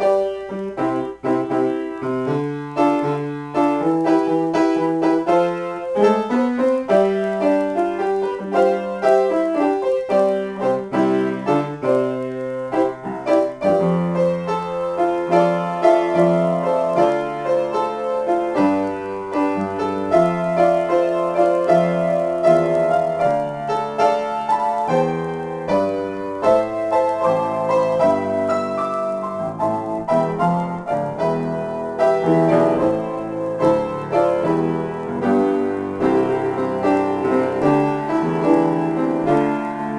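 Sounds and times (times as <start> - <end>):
solo grand piano: 0.0 - 39.9.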